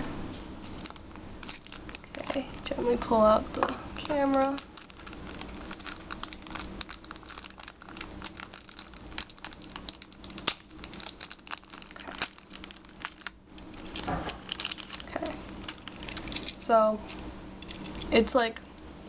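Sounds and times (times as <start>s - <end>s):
packaging crinkling and rustling: 0.6s - 18.2s.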